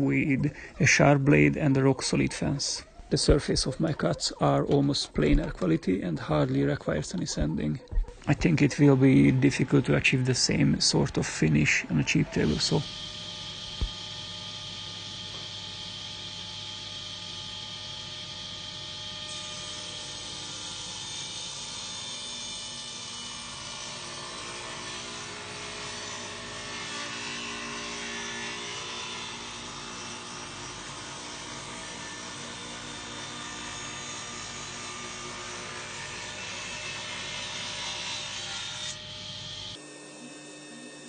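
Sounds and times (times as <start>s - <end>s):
table saw cutting wood: 0.0s - 41.0s.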